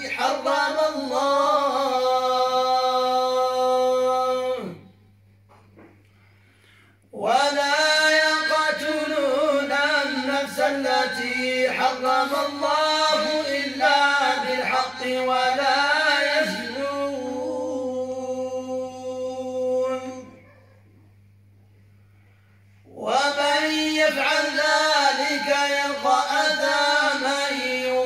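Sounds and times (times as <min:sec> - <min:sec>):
men chanting into a microphone: 0:00.0 - 0:04.8, 0:07.1 - 0:20.4, 0:22.9 - 0:28.0.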